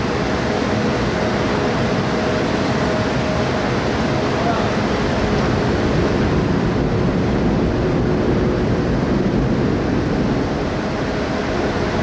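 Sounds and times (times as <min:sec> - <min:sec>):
propellers churning water: 0:00.0 - 0:12.0.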